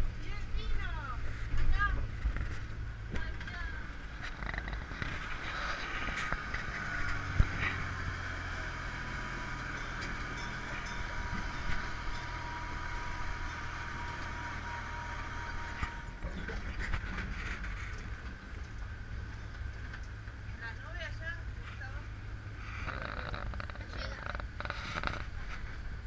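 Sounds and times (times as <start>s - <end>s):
thin steady whine: 0.0s - 26.0s
tractor engine running: 0.0s - 26.0s
wagons rattling: 0.2s - 21.9s.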